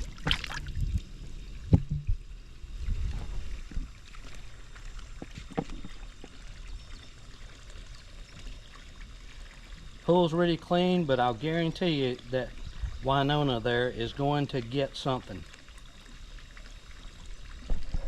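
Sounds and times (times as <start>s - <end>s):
pool water sloshing: 0.0s - 18.0s.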